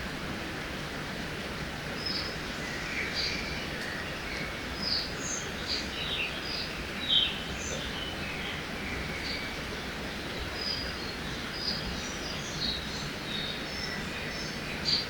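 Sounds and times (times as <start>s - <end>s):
songbirds chirping: 1.9s - 15.0s.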